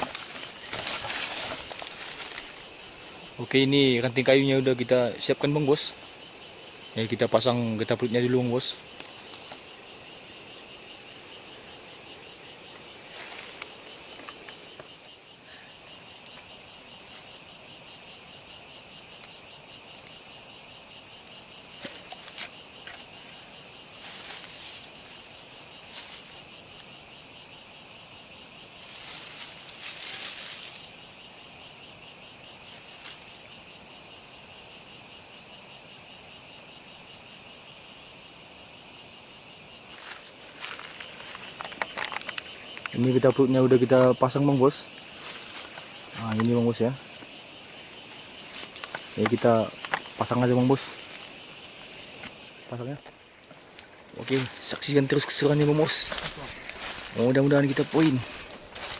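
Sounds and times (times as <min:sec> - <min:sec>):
insects buzzing chorus: 0:00.0 - 0:58.9.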